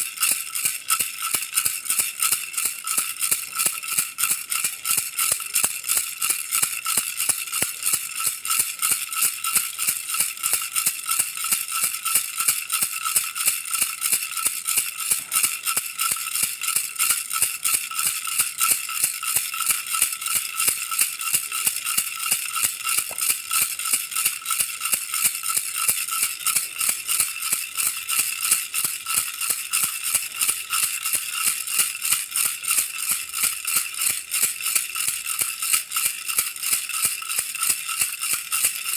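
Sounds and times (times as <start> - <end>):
baby rattle toy shaken: 0.0 - 38.9.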